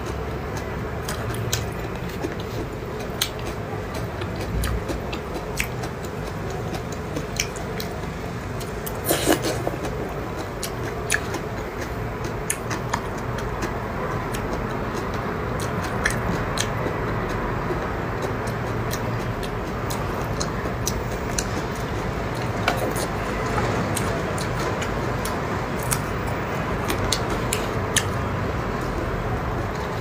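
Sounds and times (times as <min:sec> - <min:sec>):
person chewing: 0:00.0 - 0:30.0.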